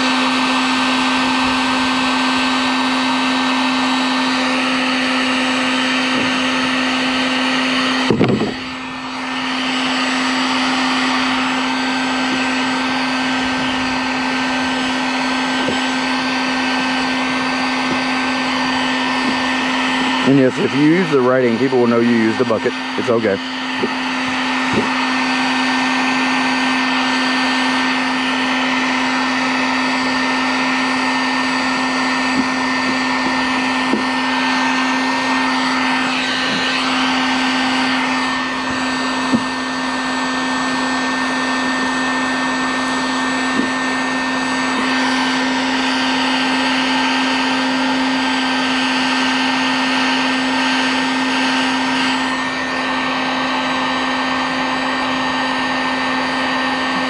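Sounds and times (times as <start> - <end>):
heat gun fan humming: 0.0 - 57.0.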